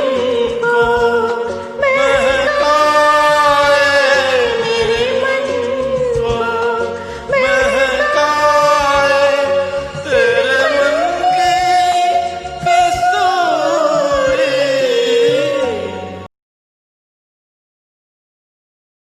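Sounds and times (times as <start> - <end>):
karaoke backing track: 0.0 - 16.3
person singing: 0.0 - 16.3.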